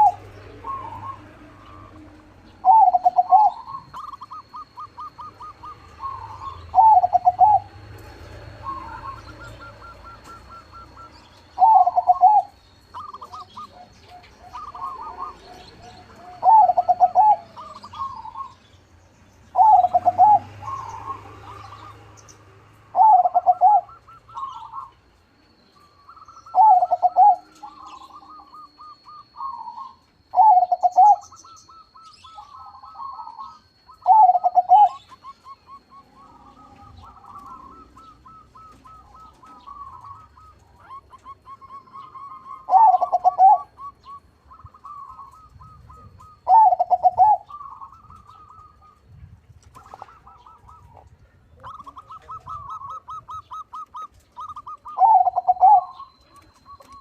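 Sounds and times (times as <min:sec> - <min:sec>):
rippling coo trills: 0:00.0 - 0:07.7, 0:08.6 - 0:18.6, 0:19.6 - 0:22.1, 0:22.9 - 0:25.0, 0:26.0 - 0:57.0
dove cooing: 0:00.0 - 0:18.6, 0:19.5 - 0:25.1, 0:25.8 - 0:57.0.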